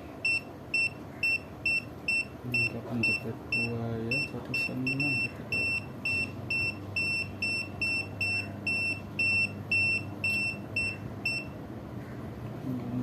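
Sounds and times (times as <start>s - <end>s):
multimeter buzzer beeping: 0.2s - 11.6s.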